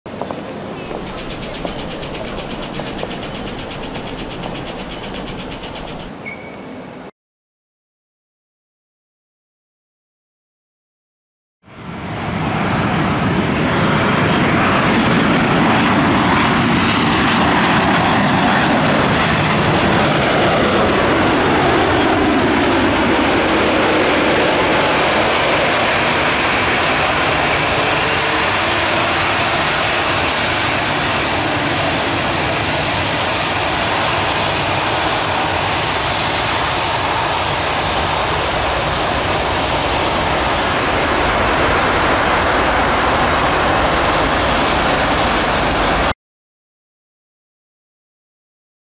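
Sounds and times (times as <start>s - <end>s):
jet engines roaring: 0.1s - 7.0s, 11.8s - 46.1s.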